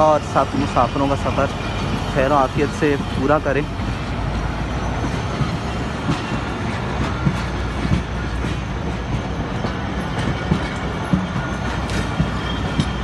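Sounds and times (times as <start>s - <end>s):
train wheels rumbling on rails: 0.0s - 13.0s
wheel clacks and knocks: 0.0s - 13.0s.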